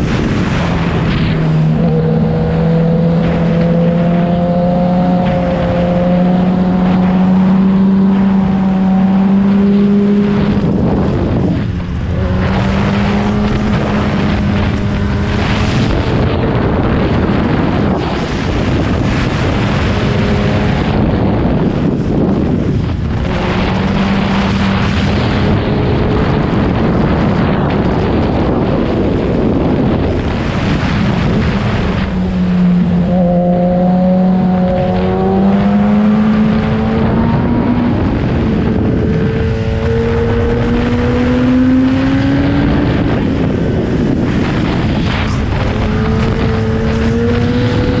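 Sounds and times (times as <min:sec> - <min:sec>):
motorcycle engine revving: 0:00.0 - 0:48.0
wind rush on microphone: 0:00.0 - 0:48.0.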